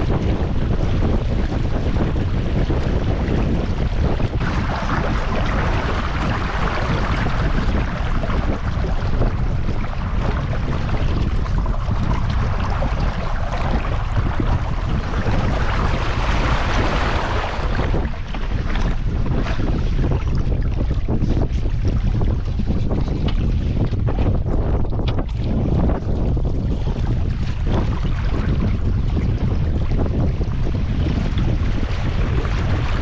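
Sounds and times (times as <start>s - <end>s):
water rushing along boat hull: 0.0s - 33.0s
wind buffeting microphone: 0.0s - 33.0s.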